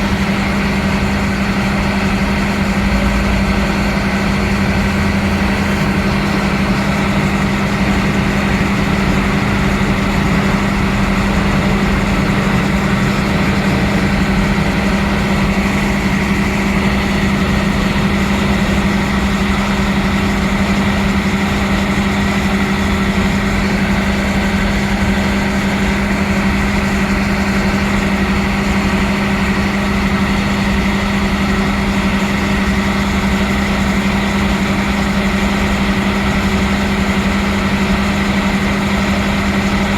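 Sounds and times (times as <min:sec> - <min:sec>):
train engine drone: 0:00.0 - 0:39.9.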